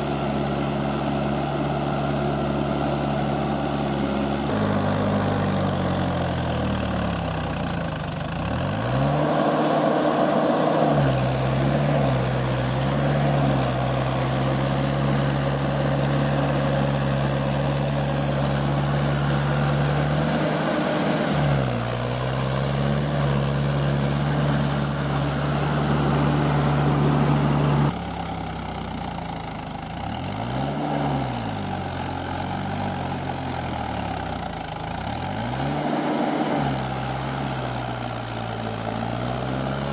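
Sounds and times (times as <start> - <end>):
tractor diesel engine under load: 0.0 - 39.9
wheels churning through mud: 0.0 - 39.9.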